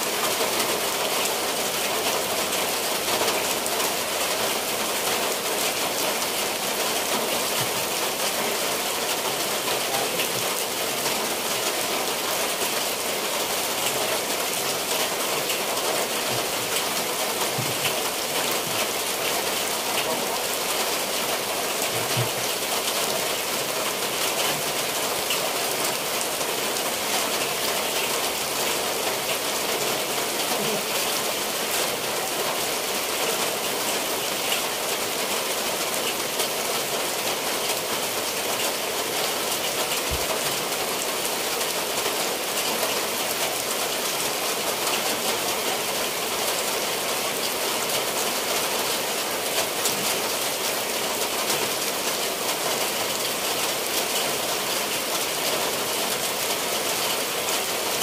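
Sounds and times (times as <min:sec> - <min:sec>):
rain on tiled roofs: 0:00.0 - 0:58.0.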